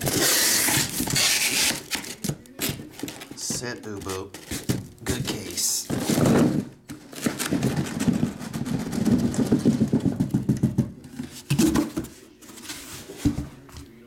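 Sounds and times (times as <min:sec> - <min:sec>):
cardboard scraping and rubbing: 0:00.0 - 0:13.8.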